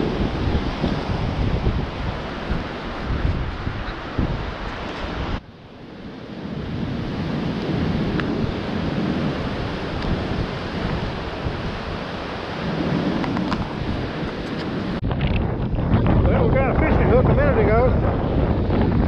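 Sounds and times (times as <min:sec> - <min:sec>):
surf washing: 0:00.0 - 0:19.0
wind buffeting microphone: 0:00.0 - 0:19.0.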